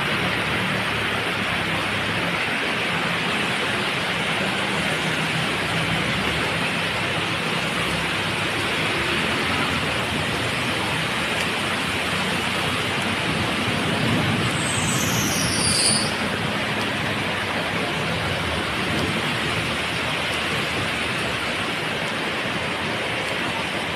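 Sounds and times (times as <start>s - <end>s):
heavy rain pouring: 0.0s - 23.9s.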